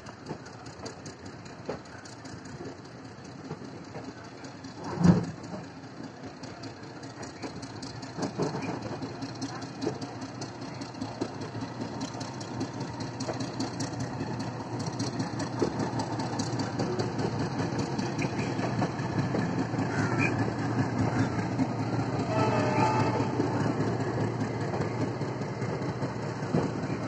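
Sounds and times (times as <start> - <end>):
train running gear rumble: 0.0 - 27.0
wheel clicks over rail joints: 0.0 - 27.0.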